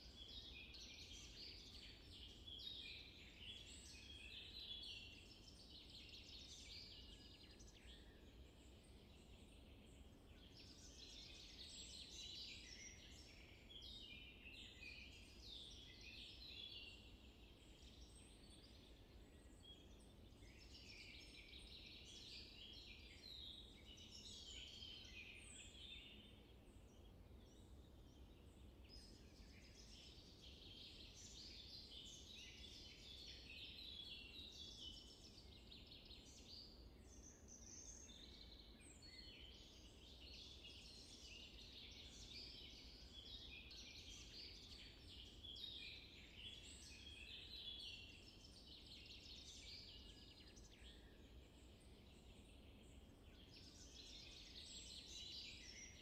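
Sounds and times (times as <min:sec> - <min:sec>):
low background hiss: 0:00.0 - 0:56.0
songbirds chirping: 0:00.0 - 0:56.0.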